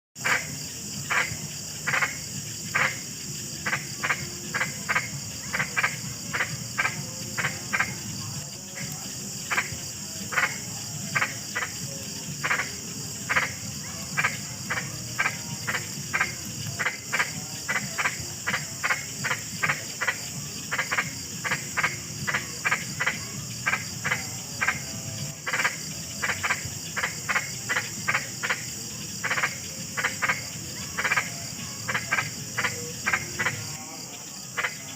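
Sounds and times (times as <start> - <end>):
frogs croaking: 0.2 - 34.9
steady high hiss: 0.2 - 34.9.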